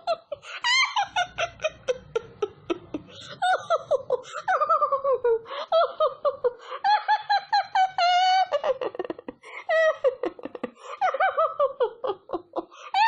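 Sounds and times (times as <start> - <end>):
person laughing in high squeaky voice: 0.0 - 12.3.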